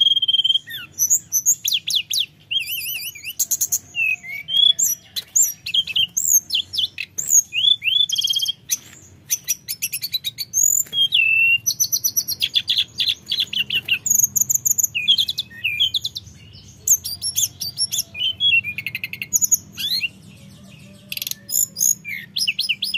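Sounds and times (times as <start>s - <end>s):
bird singing whistles and trills: 0.0s - 22.9s.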